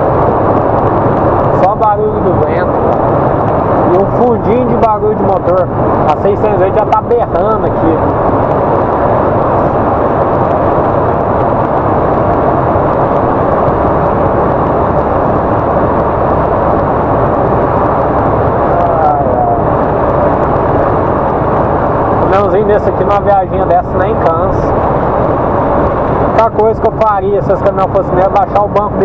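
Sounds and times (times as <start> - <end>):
low diesel engine hum: 0.0 - 29.0
wind and road noise: 0.0 - 29.0.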